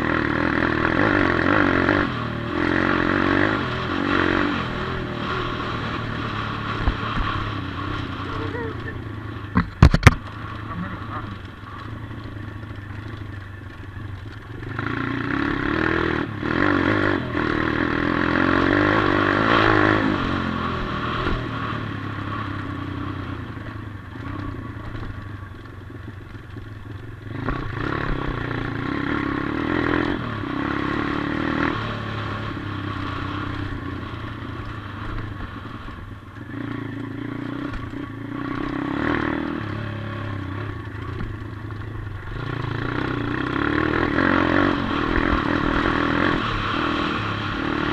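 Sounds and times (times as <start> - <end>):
motorbike engine revving: 0.0 - 47.9.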